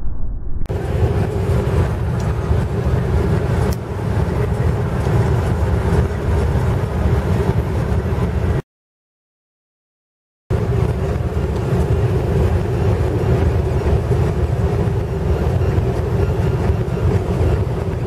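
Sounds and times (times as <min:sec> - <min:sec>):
diesel engine drone in car cabin: 0:00.6 - 0:08.6, 0:10.5 - 0:18.0.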